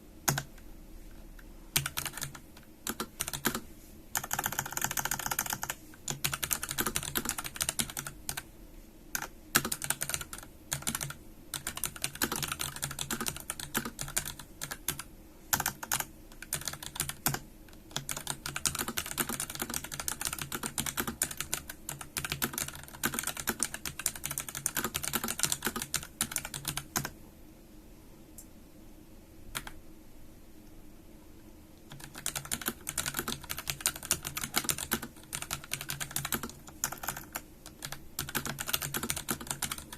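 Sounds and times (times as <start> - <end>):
mechanical keyboard typing: 0.2 - 0.6, 1.8 - 3.6, 4.2 - 8.4, 9.2 - 27.1, 29.5 - 29.8, 31.9 - 39.9.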